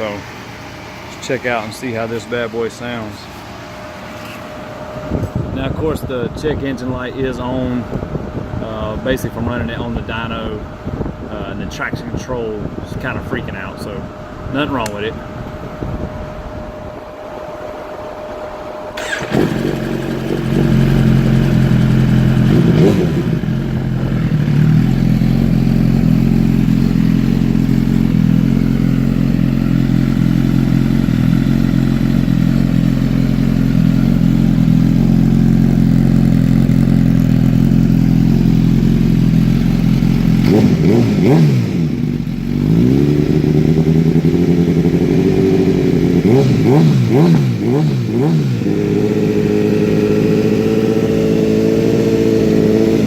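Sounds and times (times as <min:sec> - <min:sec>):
motorcycle engine idling and revving: 0:00.0 - 0:11.2, 0:16.5 - 0:53.0.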